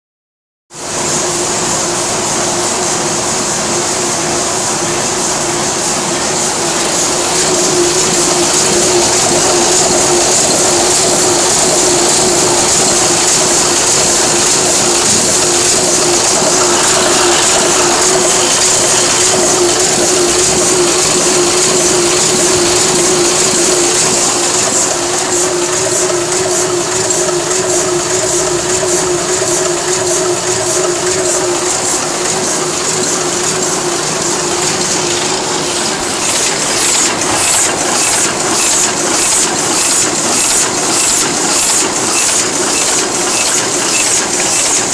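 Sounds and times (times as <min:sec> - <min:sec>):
printing press clattering: 0:04.5 - 0:44.9
rhythmic clicking: 0:05.9 - 0:44.9.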